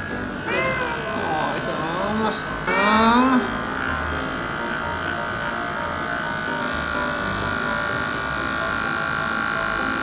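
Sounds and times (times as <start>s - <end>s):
electric hair clipper buzzing: 0.0s - 10.0s.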